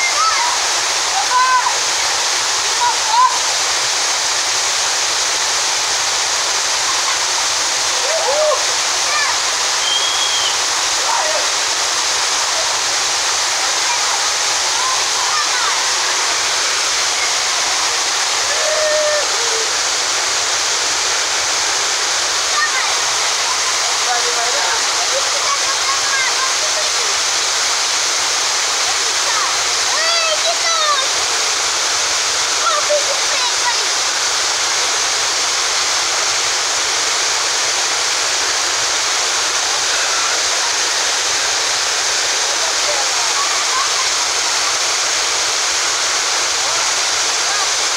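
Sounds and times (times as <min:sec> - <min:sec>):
waterfall rushing onto rocks: 0:00.0 - 0:47.9.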